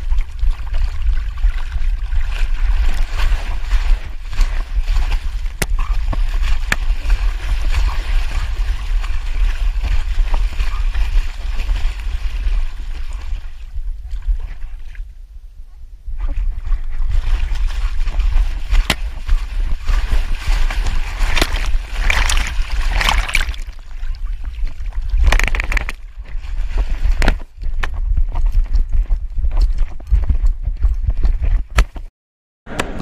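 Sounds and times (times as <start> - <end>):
water splashing and sloshing: 0.0 - 15.3, 16.0 - 32.0.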